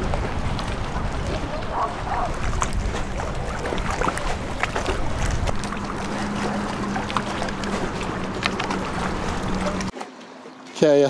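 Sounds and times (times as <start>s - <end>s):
wind rumble on microphone: 0.0s - 9.9s
boat motor humming: 0.0s - 10.0s.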